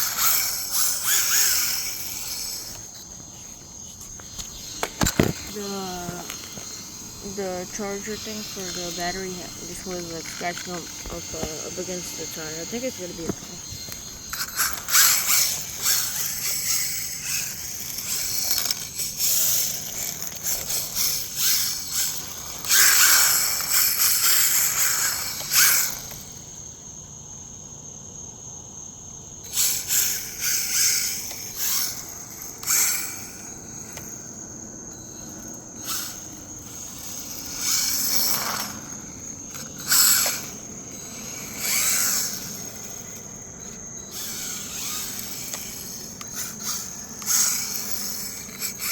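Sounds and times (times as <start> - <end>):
wheels scrabbling on loose dirt: 0.0 - 26.5, 29.5 - 48.9
rc car electric motor whining: 0.0 - 27.0, 29.4 - 48.9.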